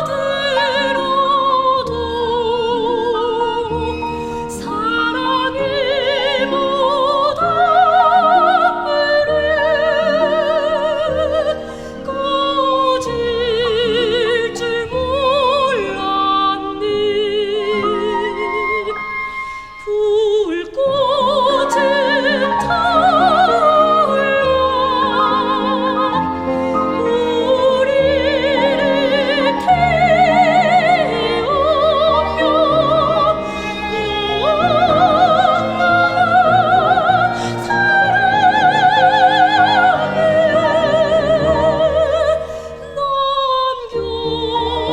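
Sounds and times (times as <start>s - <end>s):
soprano singing operatically: 0.0s - 44.9s.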